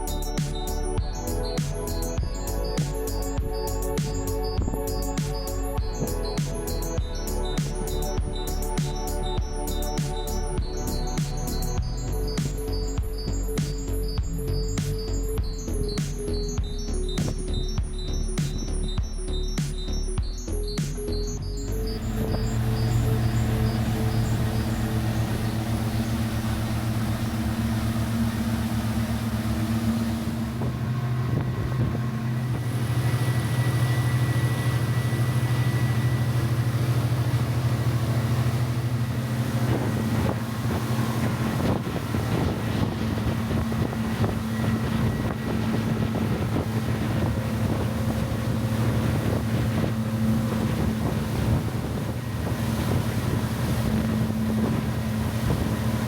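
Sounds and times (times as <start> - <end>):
motorboat engine droning: 0.0 - 56.0
wind on microphone: 0.0 - 56.0.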